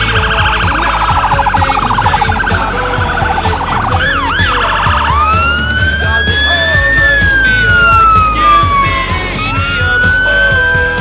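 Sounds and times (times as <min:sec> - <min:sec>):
fire engine siren: 0:00.0 - 0:11.0.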